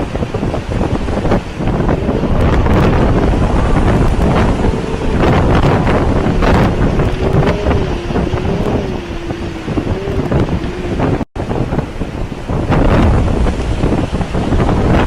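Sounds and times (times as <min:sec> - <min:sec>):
faint wavering wind whistle: 0:00.0 - 0:15.0
strong wind buffeting microphone: 0:00.0 - 0:15.0.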